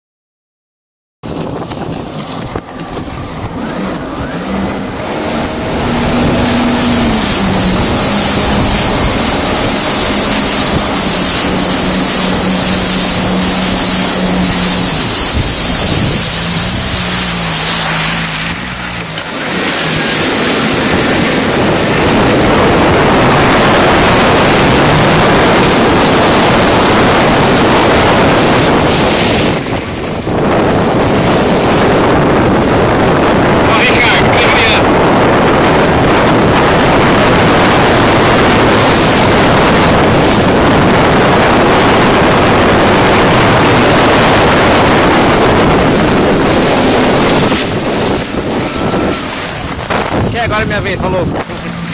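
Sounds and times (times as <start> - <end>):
jet ski engine: 1.2 - 51.9
rushing water: 1.2 - 51.9
wind on microphone: 1.2 - 51.9.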